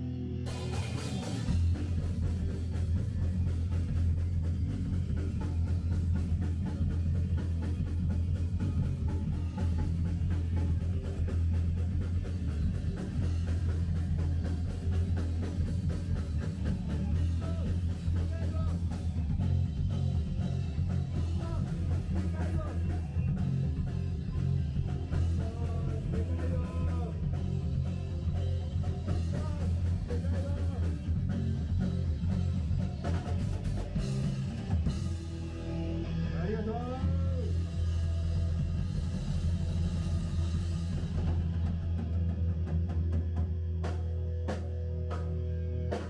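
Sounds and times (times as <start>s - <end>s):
electric bass: 0.0s - 46.0s
electric guitar: 0.0s - 46.0s
drum kit: 0.4s - 46.0s.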